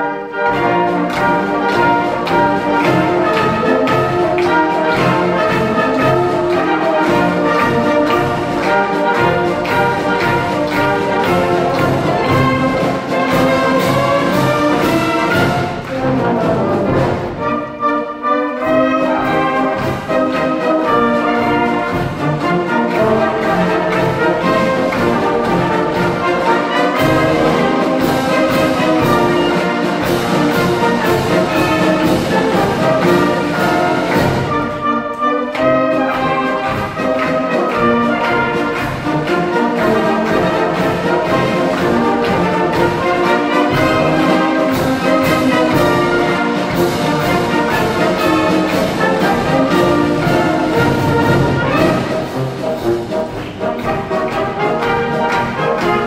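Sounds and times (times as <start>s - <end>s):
wind band playing: 0.0s - 56.0s
drum beat: 0.5s - 17.4s, 19.0s - 34.9s, 35.7s - 56.0s.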